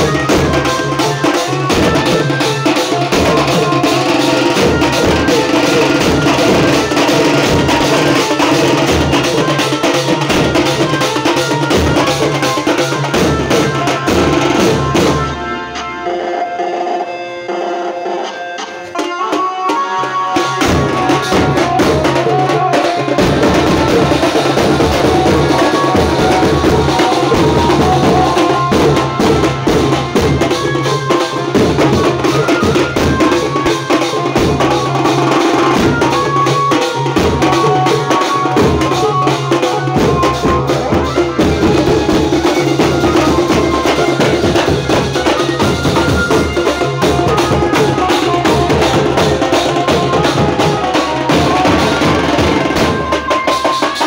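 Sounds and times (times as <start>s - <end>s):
drums beaten with sticks: 0.0s - 54.0s.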